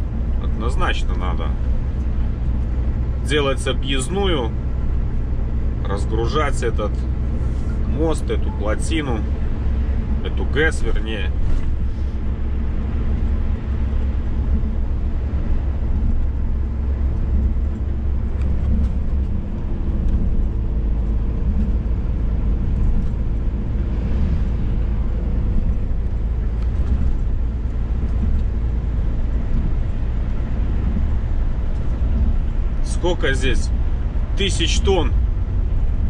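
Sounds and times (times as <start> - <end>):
truck engine drone: 0.0 - 36.0
tyre and road noise: 0.0 - 36.0.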